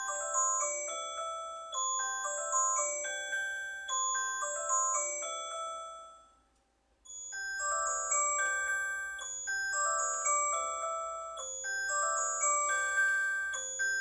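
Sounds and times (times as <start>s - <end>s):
tinkling chime melody: 0.0s - 14.0s.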